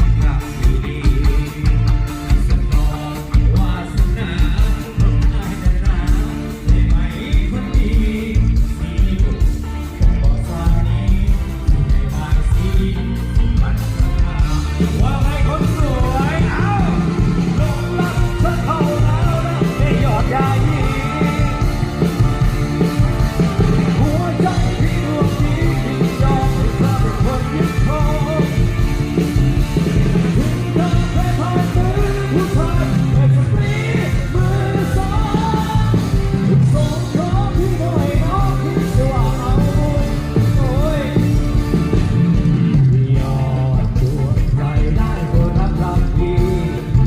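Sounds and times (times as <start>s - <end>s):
band playing amplified music: 0.0s - 47.0s
drum beat: 0.0s - 47.0s
person singing: 0.0s - 47.0s.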